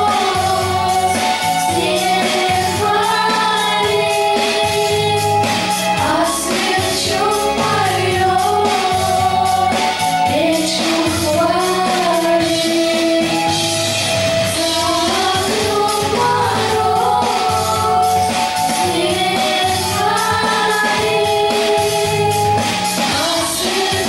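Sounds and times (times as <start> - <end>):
girls singing pop song: 0.0 - 24.0
instrumental accompaniment with beat: 0.0 - 24.0.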